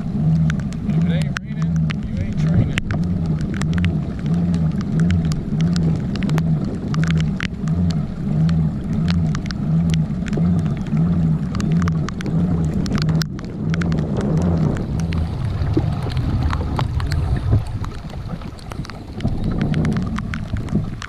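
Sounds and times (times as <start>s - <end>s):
kayak pedal drive whirring: 0.0s - 21.0s
raindrops ticking: 0.0s - 21.0s.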